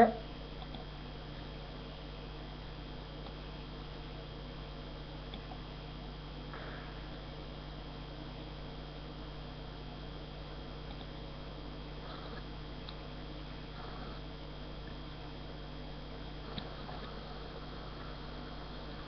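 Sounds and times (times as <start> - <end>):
electrical hum and hiss: 0.0 - 19.0.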